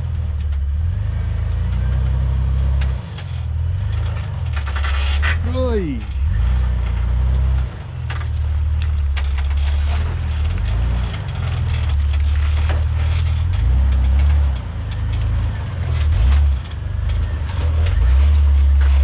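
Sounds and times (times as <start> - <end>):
engine running at low revs: 0.0 - 19.0
tyres and chassis knocking on stones: 1.6 - 19.0.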